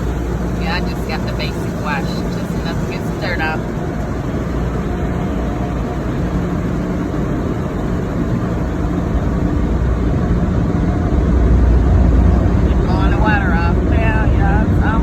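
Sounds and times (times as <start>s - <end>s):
car wash air dryers blowing: 0.0s - 15.0s.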